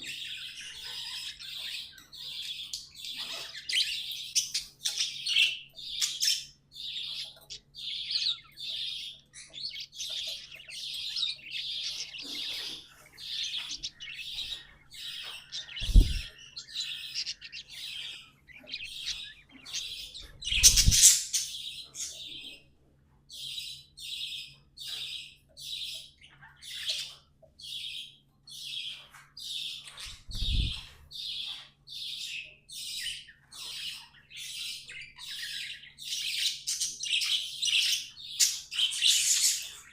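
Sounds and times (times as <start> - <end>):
budgerigars chirping: 0.0 - 22.7, 23.3 - 39.9.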